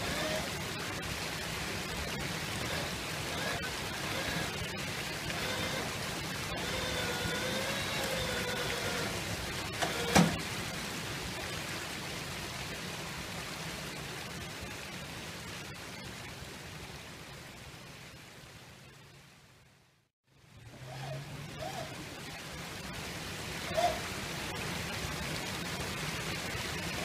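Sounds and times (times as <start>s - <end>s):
creek water running over rocks: 0.0s - 27.0s.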